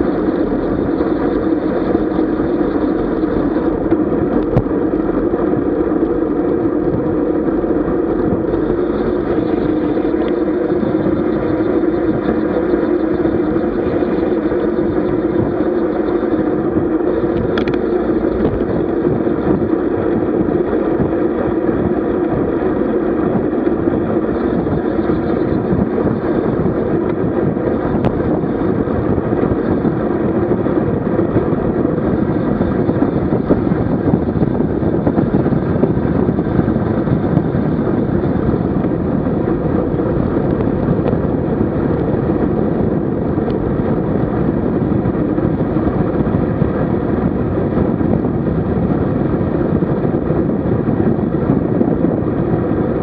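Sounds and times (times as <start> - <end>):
wind and road rumble: 0.0 - 53.0.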